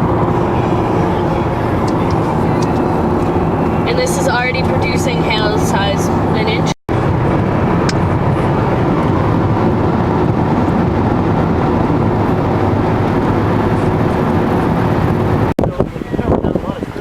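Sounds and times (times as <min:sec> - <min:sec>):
car engine hum: 0:00.0 - 0:17.0.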